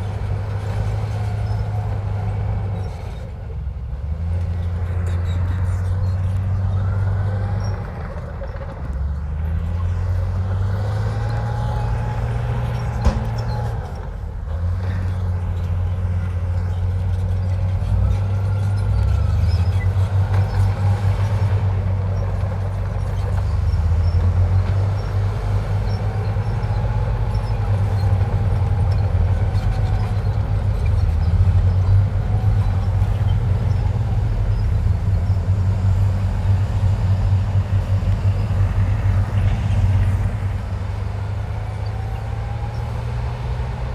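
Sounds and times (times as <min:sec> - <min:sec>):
bulldozer diesel engine: 0:00.0 - 0:43.9.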